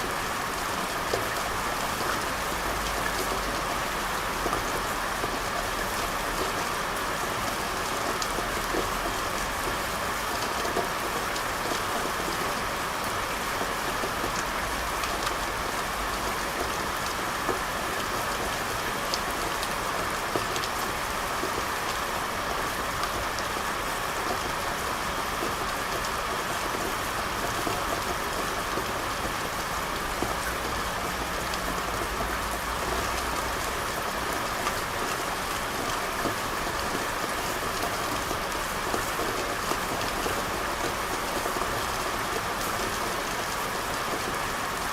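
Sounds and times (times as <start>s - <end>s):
rain on hard surfaces: 0.0s - 44.9s.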